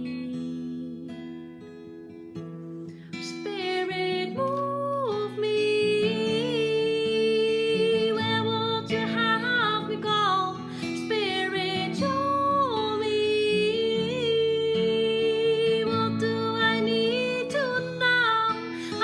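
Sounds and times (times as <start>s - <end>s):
woman singing: 0.0s - 2.2s, 3.1s - 19.0s
acoustic guitar: 0.0s - 19.0s.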